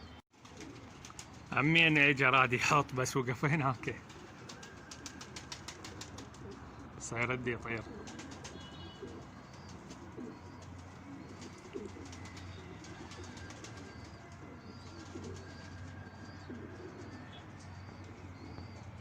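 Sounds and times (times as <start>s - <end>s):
pigeons cooing: 0.0s - 1.5s, 3.7s - 19.0s
small birds chirping: 0.0s - 19.0s.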